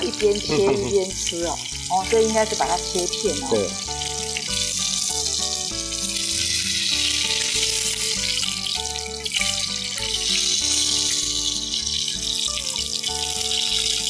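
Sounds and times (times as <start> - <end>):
background music with bass line: 0.0 - 14.0
duck breast sizzling in a pan: 0.0 - 14.0.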